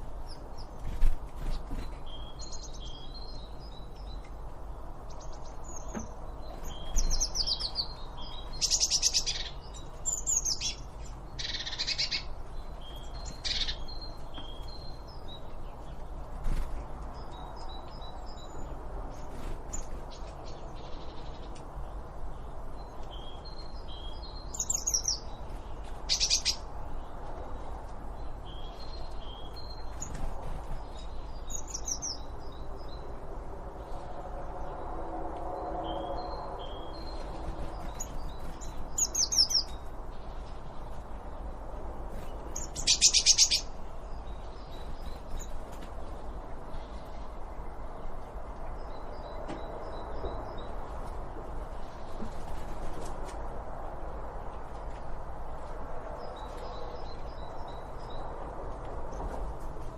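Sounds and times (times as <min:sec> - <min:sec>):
birds chirping and trilling: 0:00.0 - 0:53.4
low background noise: 0:00.0 - 0:59.9.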